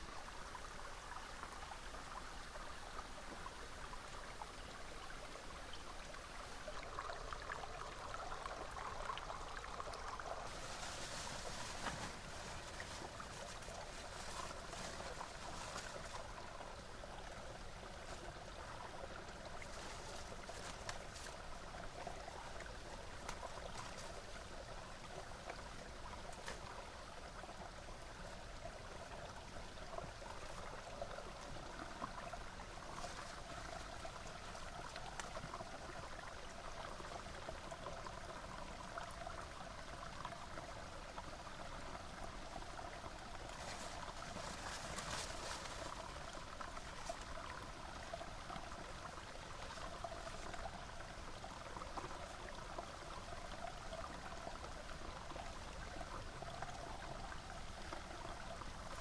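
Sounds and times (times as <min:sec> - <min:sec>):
small river flowing: 0:00.0 - 0:59.0.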